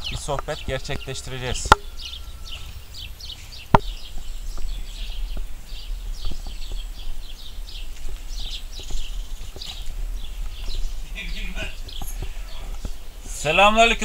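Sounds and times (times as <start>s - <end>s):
small birds chirping: 0.0s - 14.0s
low rumble: 1.8s - 13.4s.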